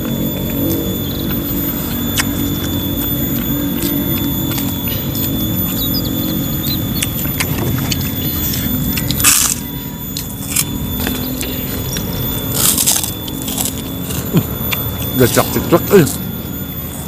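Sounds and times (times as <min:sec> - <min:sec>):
chewing and lip-smacking: 0:00.0 - 0:17.0
steady low rumble: 0:00.0 - 0:17.0.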